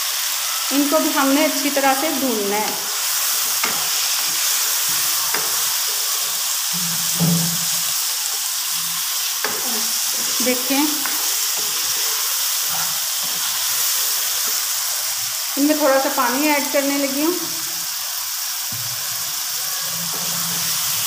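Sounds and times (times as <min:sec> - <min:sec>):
potatoes sizzling in a pan: 0:00.0 - 0:21.0.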